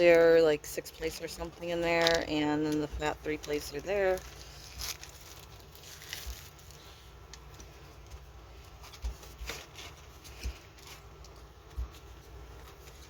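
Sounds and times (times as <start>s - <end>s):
plastic packaging rustling and tapping: 0.0s - 13.0s.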